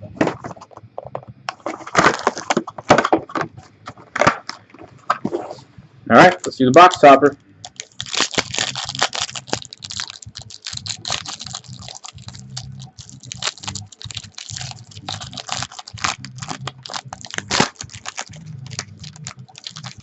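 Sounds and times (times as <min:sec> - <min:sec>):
card pack clicking and rustling: 0:01.5 - 0:04.6, 0:06.3 - 0:20.0.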